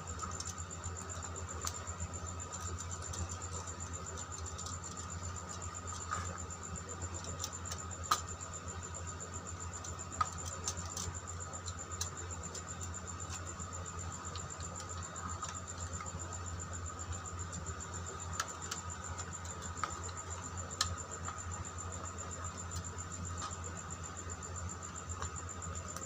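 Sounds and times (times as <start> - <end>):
wire clicks and scratches: 0.0 - 8.8, 9.7 - 23.8
steady hum: 0.0 - 26.0.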